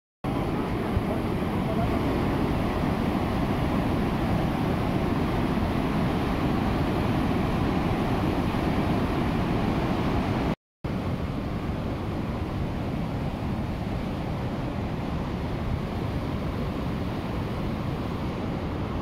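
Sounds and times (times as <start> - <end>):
river rapids roaring: 0.3 - 19.0.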